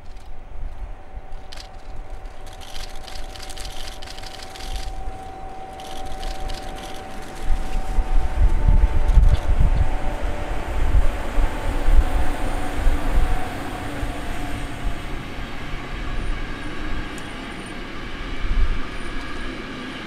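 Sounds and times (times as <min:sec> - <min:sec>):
electric locomotive whine: 0:00.0 - 0:20.0
train rumble: 0:00.0 - 0:20.0.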